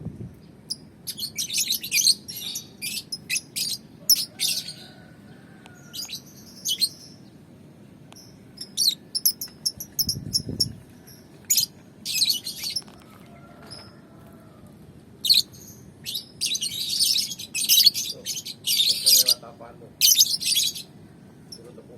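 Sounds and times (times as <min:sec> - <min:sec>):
lovebirds chirping: 0:00.3 - 0:13.9, 0:15.2 - 0:21.8.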